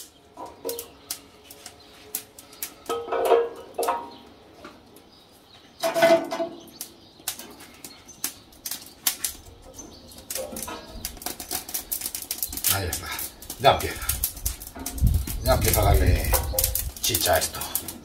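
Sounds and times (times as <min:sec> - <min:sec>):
firewood clattering against steel: 0:00.0 - 0:04.8, 0:05.8 - 0:18.0
fire crackling: 0:00.0 - 0:18.0.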